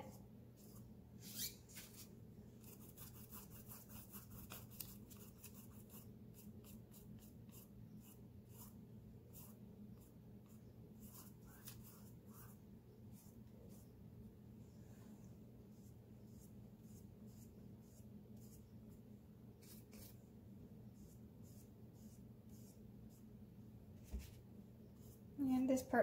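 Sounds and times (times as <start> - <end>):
paintbrush scratching on canvas: 0.0 - 2.0, 2.6 - 14.0, 15.7 - 19.0, 19.6 - 20.2, 20.9 - 23.3, 24.0 - 25.8
low steady hum: 0.0 - 26.0.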